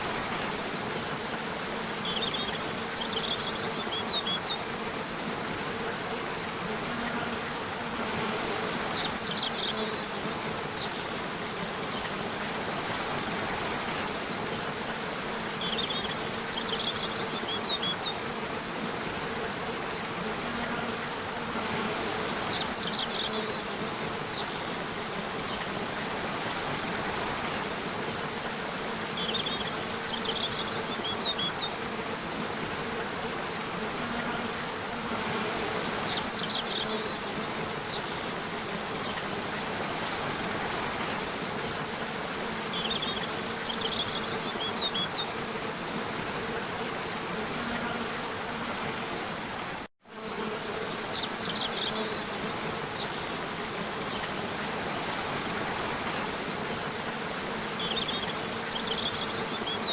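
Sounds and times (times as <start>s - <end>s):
running water: 0.0s - 49.9s, 50.6s - 59.9s
buzzing insect drone: 0.0s - 59.9s.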